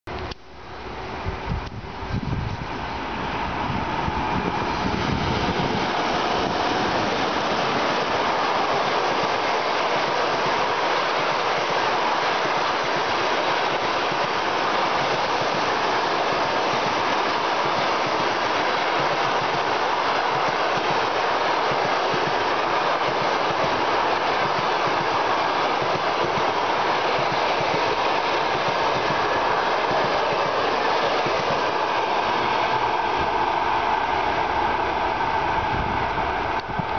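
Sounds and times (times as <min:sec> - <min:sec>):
train wheels running on rails: 0:01.1 - 0:36.9.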